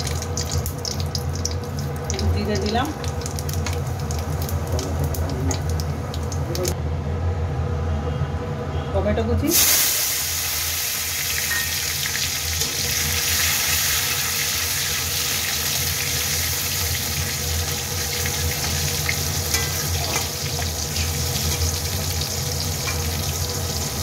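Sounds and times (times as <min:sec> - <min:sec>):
tomatoes sizzling in hot oil: 0:00.0 - 0:06.8, 0:09.5 - 0:24.0.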